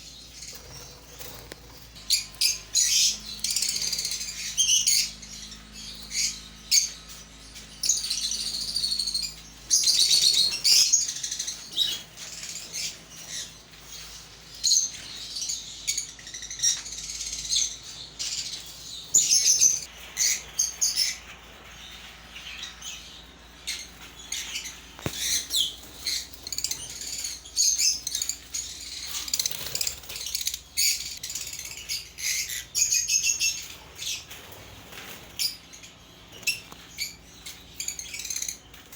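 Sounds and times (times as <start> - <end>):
parrots chirping and calling: 0.1 - 38.9.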